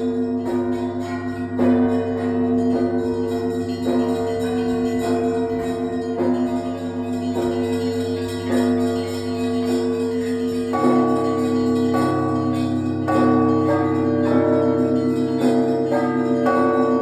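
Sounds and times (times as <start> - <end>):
church bells struck together: 0.0 - 17.0
deep heavy bell: 0.0 - 17.0
hum of large bells: 0.0 - 17.0.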